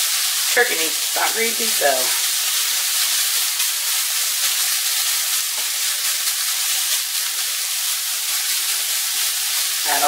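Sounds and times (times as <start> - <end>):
meat sizzling in a skillet: 0.0 - 10.0.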